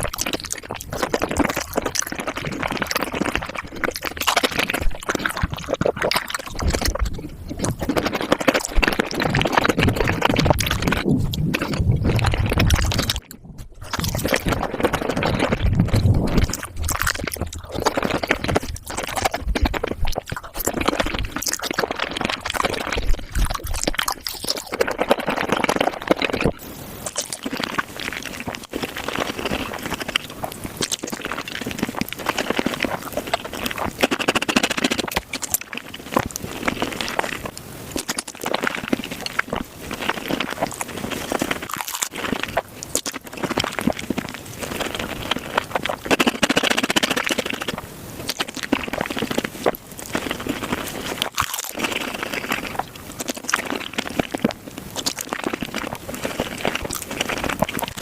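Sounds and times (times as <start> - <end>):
squelchy mouth clicks: 0.0 - 58.0
wet chewing and slurping: 0.0 - 58.0.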